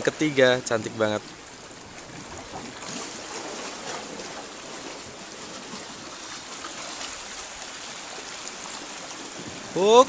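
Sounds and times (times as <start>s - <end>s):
seawater trickling through rocks: 0.0s - 10.0s.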